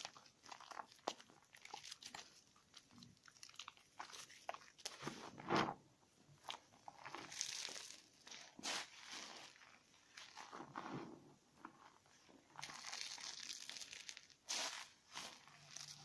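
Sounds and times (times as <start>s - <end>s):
soap being lathered by hand: 0.0s - 5.1s, 6.4s - 11.0s, 11.9s - 16.0s.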